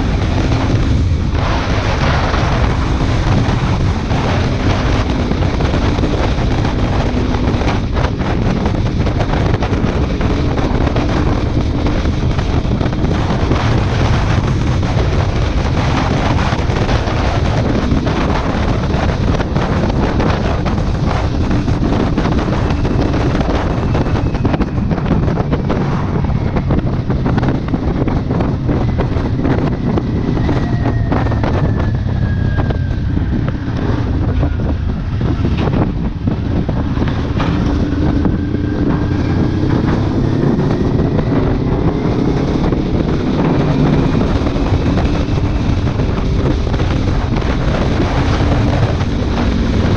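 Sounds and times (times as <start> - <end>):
motorcycle engine running: 0.0 - 49.9
wind noise on microphone: 0.0 - 49.9.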